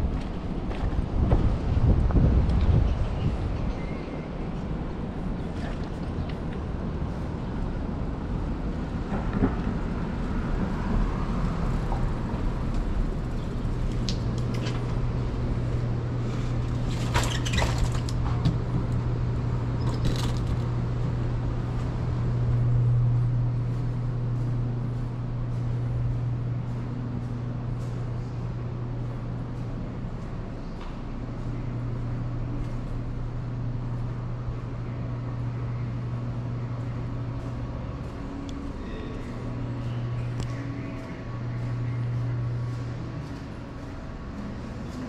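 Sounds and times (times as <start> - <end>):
engine humming: 0.0 - 45.0
street noise: 0.0 - 45.0.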